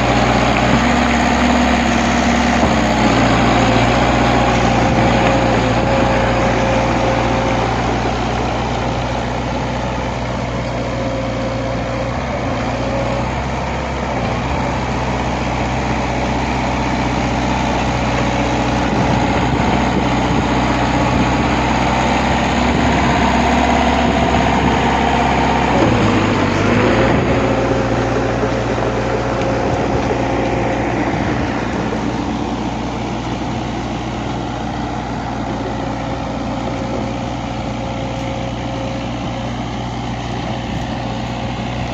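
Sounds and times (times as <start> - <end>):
heavy engine running: 0.0 - 41.9.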